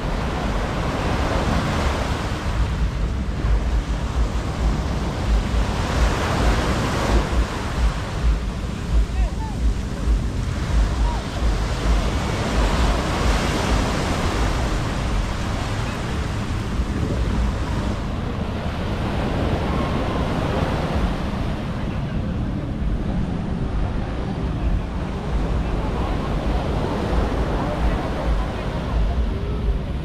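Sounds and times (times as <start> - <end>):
surf washing onto sand: 0.0 - 30.0
wind buffeting microphone: 0.0 - 30.0.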